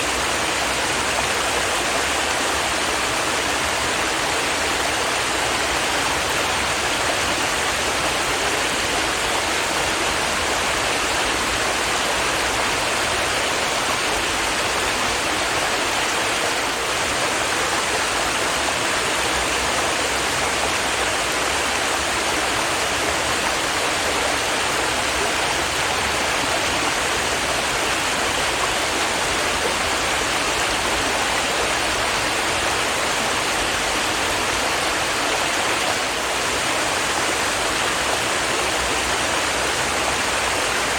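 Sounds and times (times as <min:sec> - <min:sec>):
stream water running over rocks: 0:00.0 - 0:40.9.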